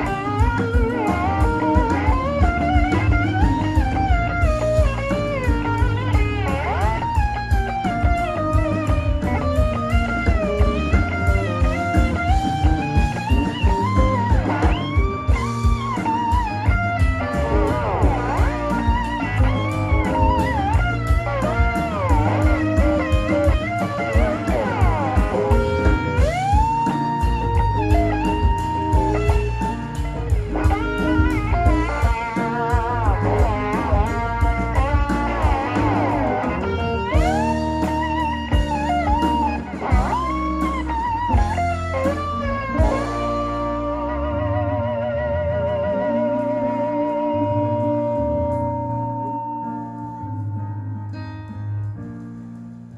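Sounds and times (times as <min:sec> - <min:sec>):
steady drum beat: 0:00.0 - 0:44.1
bass: 0:00.0 - 0:52.9
electric guitar lead: 0:00.0 - 0:52.9.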